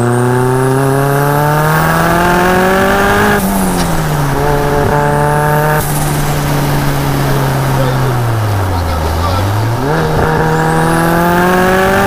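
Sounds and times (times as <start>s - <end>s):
car engine revving hard: 0.0s - 12.0s
sharp burst at gear change: 0.8s - 12.0s.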